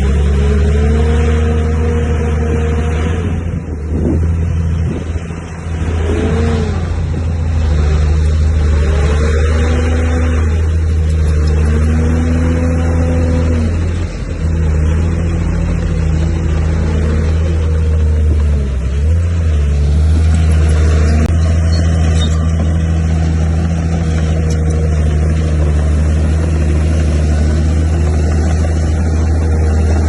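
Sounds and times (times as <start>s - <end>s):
heavy diesel engine under load: 0.0s - 30.0s.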